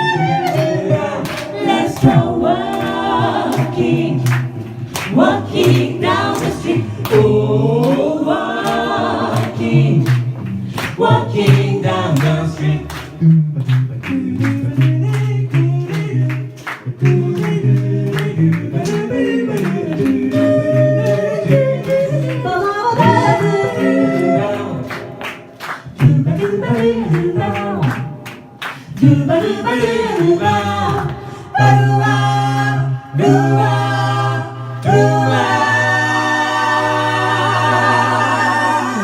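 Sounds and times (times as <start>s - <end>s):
a cappella group singing: 0.0s - 39.0s.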